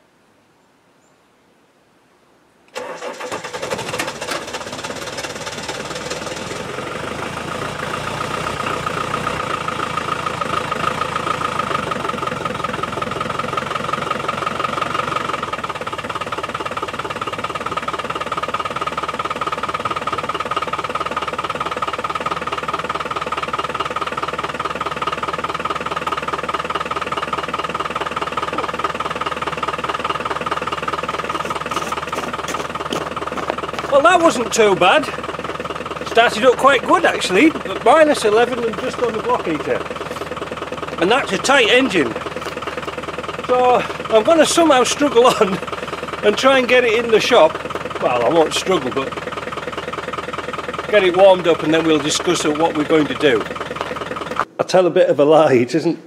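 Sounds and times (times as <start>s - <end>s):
diesel engine idling with knock: 3.0s - 54.6s.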